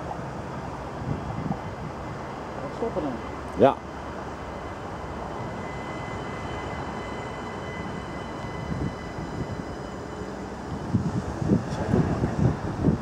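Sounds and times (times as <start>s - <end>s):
distant train rumble: 0.0s - 13.0s
wind buffeting microphone: 0.0s - 13.0s
thin high whine: 1.4s - 13.0s.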